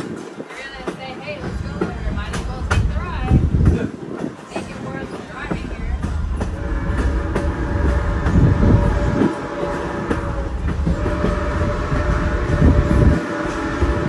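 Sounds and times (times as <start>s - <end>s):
train rumbling and clattering on rails: 0.0s - 14.0s.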